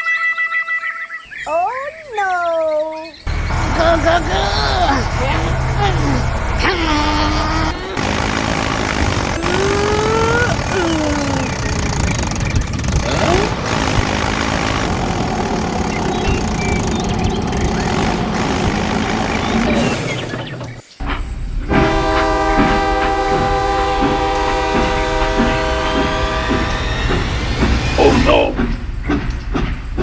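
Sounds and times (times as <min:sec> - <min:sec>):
engine running: 0:03.3 - 0:30.0.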